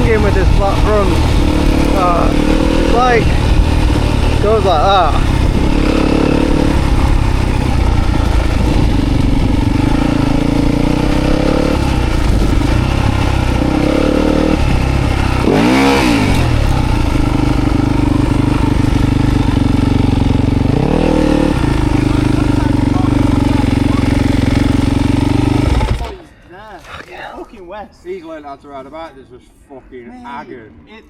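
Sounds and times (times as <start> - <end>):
dirt bike engine running: 0.0 - 26.2.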